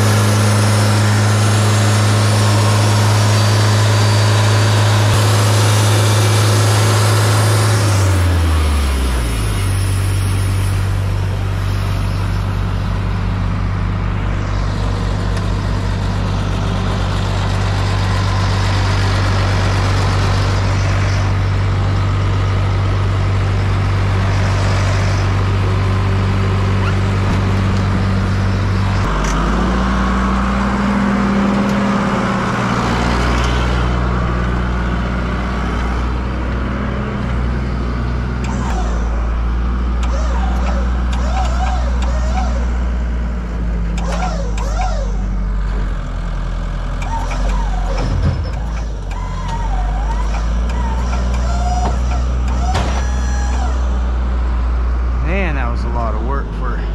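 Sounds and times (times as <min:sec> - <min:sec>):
engine running: 0:00.0 - 0:56.9.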